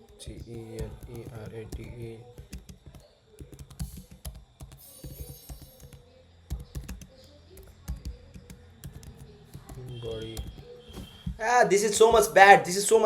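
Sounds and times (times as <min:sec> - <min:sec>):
typing on computer keyboard: 0:00.0 - 0:11.3.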